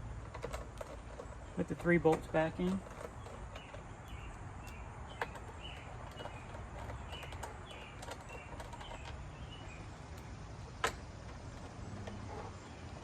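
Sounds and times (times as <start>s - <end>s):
light clicks of bolts: 0.0s - 13.0s
small birds chirping: 0.0s - 13.0s.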